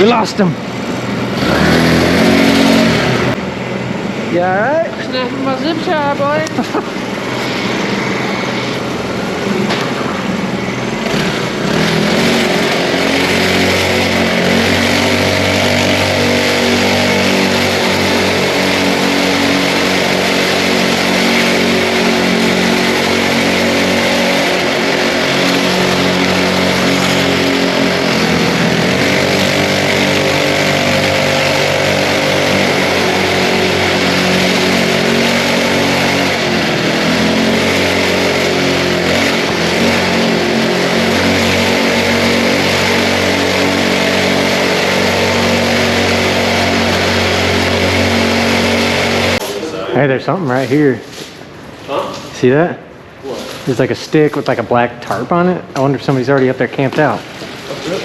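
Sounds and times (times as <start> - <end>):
small bike engine running: 0.0 - 51.8.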